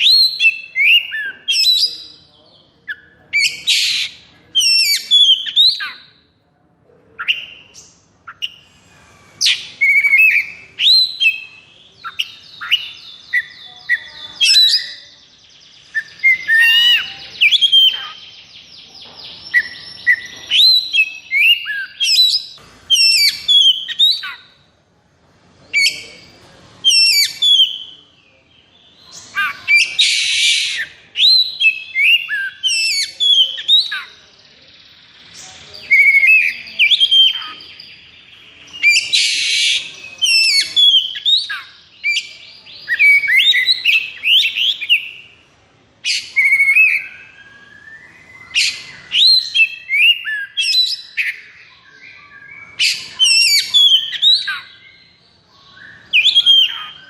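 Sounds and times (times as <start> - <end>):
bird singing whistled song: 0.0 - 2.3, 2.9 - 6.2, 9.3 - 24.6, 26.8 - 28.1, 28.9 - 45.4, 46.0 - 57.0.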